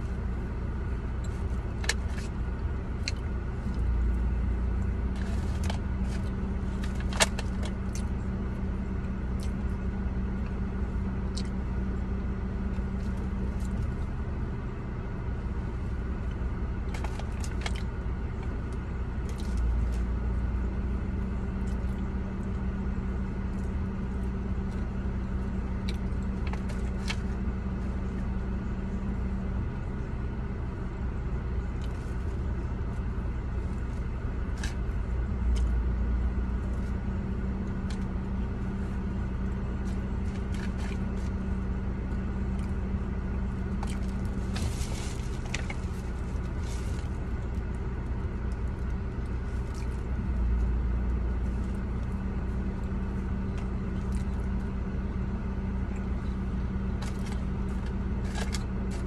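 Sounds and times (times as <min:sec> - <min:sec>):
idling car hum: 0:00.0 - 0:59.0.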